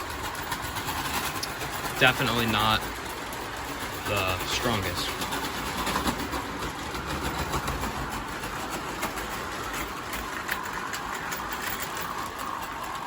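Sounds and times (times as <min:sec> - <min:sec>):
model train motor humming: 0:00.0 - 0:13.0
wheels clicking over track: 0:00.0 - 0:13.0.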